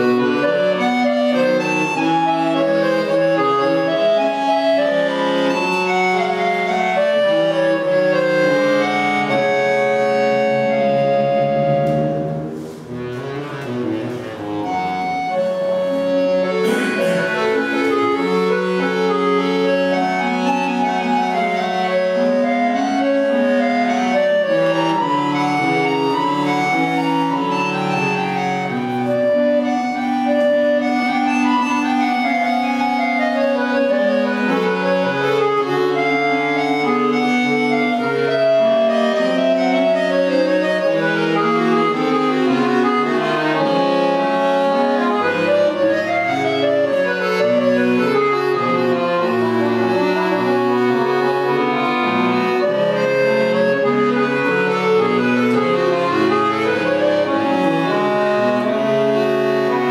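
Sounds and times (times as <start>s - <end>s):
button accordion playing classical piece: 0.0s - 59.9s.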